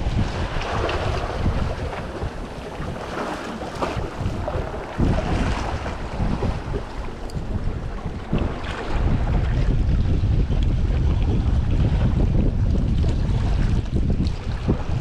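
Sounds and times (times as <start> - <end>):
sea waves against rock wall: 0.0 - 15.0
wind buffeting microphone: 0.0 - 15.0.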